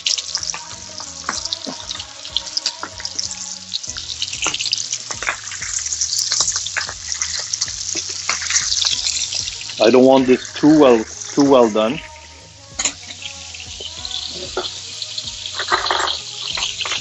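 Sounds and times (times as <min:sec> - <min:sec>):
steaks sizzling in a pan: 0:00.0 - 0:17.0.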